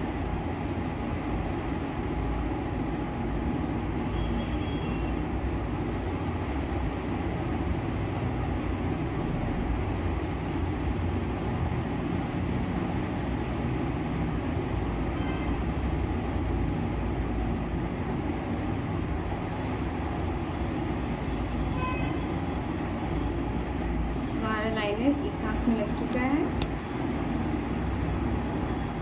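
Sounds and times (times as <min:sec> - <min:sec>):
low rumbling background noise: 0:00.0 - 0:29.0.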